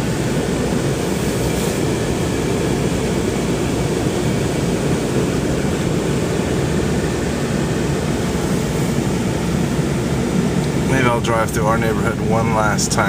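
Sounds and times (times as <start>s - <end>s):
car driving on snow inside cabin: 0.0s - 13.0s.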